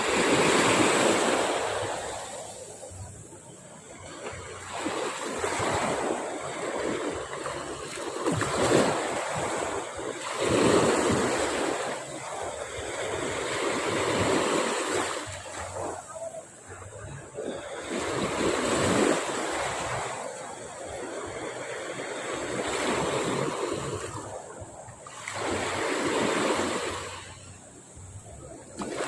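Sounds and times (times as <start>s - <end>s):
sea waves breaking on a beach: 0.0s - 29.0s.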